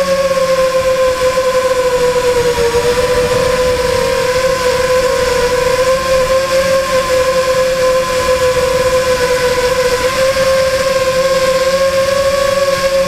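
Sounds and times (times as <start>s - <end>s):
model aircraft motor whine: 0.0s - 13.0s.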